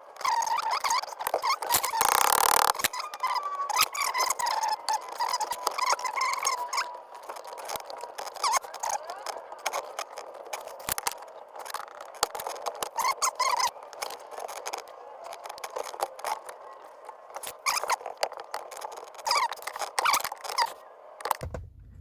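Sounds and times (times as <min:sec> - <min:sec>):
short squeaks: 0:00.2 - 0:22.0.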